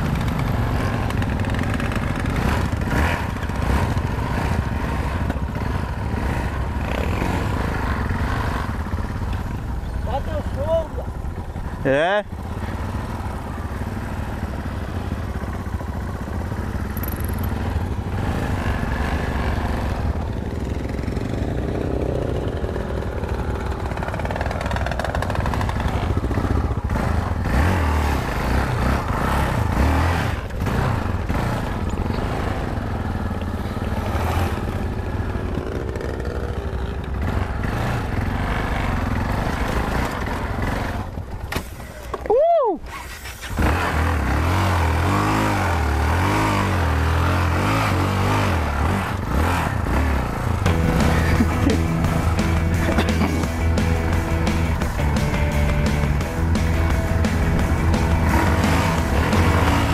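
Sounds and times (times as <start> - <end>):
motorcycle engine running: 0.0 - 42.3, 43.1 - 59.9.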